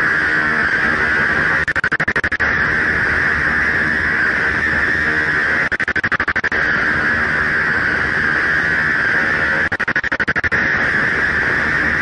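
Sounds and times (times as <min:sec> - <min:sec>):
harsh hissing noise: 0:00.0 - 0:12.0.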